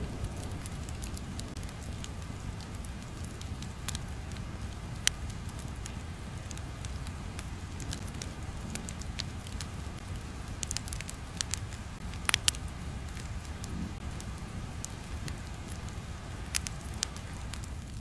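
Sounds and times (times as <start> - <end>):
low rumble: 0.0 - 18.0
sharp clicks and pops: 0.1 - 18.0.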